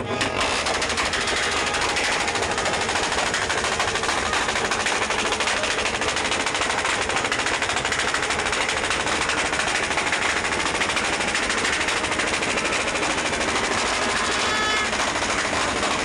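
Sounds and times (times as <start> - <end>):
motorcycle exhausts revving: 0.0 - 16.0.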